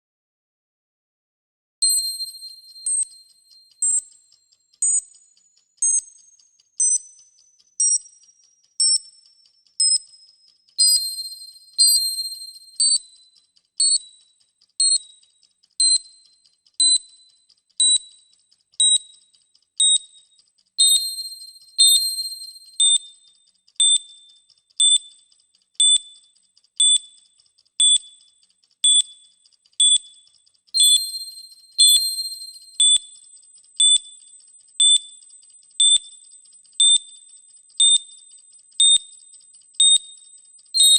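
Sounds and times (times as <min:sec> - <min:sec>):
electronic timer dings: 0:01.8 - 0:40.9.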